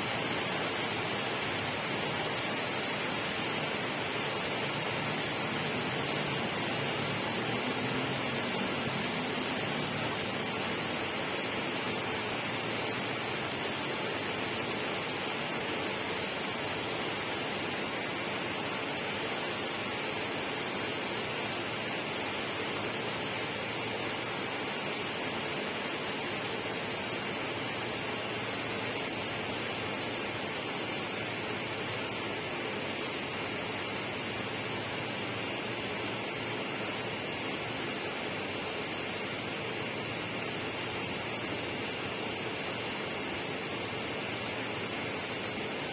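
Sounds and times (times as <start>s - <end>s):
steady rushing noise: 0.0s - 45.9s.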